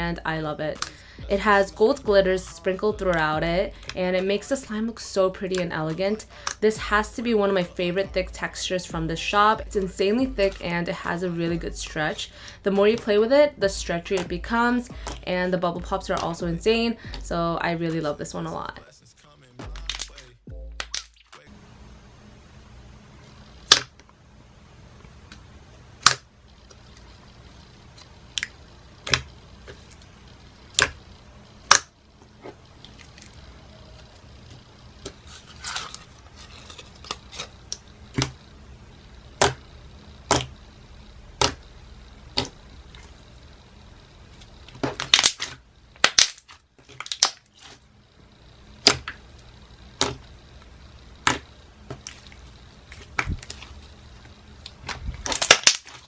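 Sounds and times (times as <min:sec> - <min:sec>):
faint low hum: 0:00.0 - 0:56.0.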